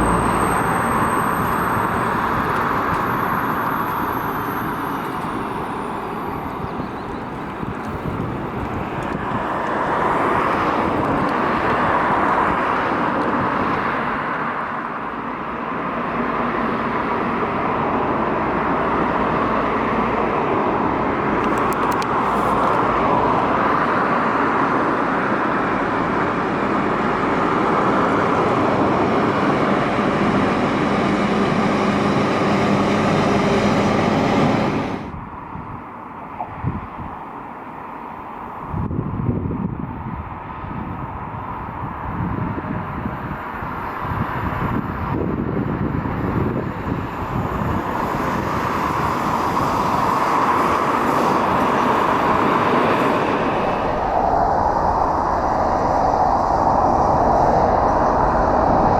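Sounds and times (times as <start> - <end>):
train passing: 0.0 - 38.9, 39.8 - 58.9.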